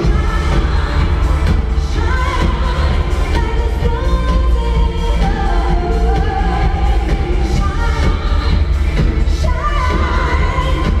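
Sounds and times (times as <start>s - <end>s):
pop band with heavy bass: 0.0s - 11.0s
woman singing into a microphone: 0.0s - 11.0s.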